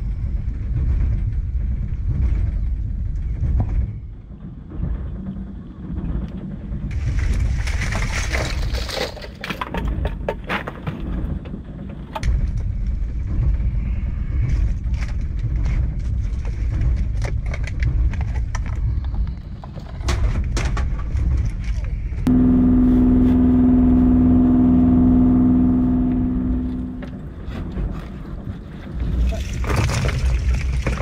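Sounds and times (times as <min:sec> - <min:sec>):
steady low rumble: 0:00.0 - 0:08.1, 0:12.2 - 0:29.2.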